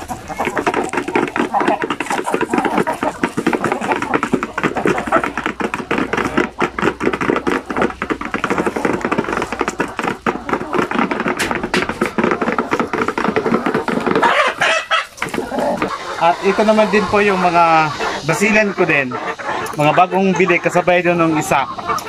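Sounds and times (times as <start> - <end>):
beaks pecking grain from feeder: 0.0 - 22.0.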